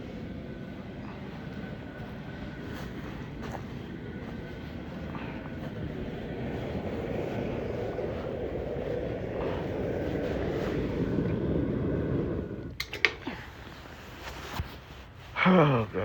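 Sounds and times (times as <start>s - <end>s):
low rumbling machine noise: 0.0s - 16.0s.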